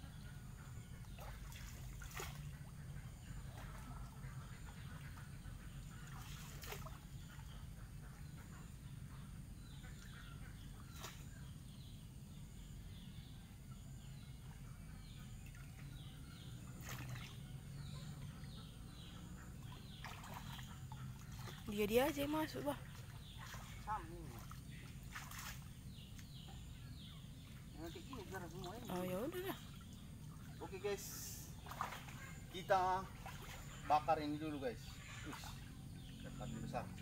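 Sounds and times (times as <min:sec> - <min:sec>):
birds chirping: 0:00.0 - 0:37.0
pond water sloshing and splashing: 0:00.1 - 0:13.6, 0:14.5 - 0:37.0.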